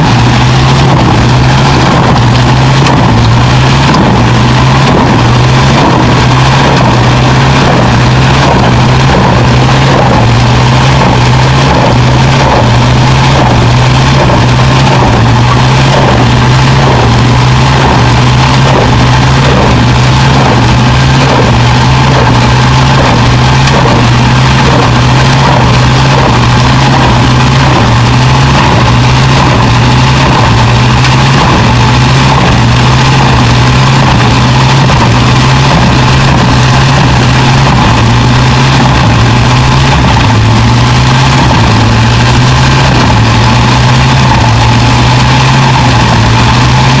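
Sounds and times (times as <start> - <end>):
machine engine running: 0.0 - 47.0.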